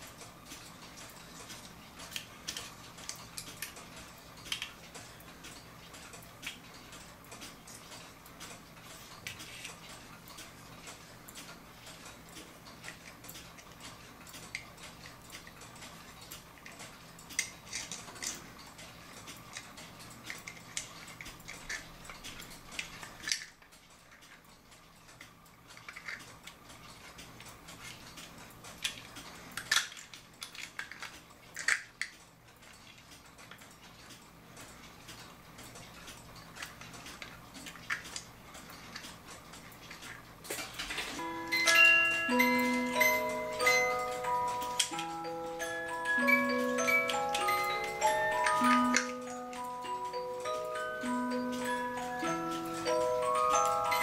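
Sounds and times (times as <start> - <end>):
clock gears clinking: 0.0 - 54.0.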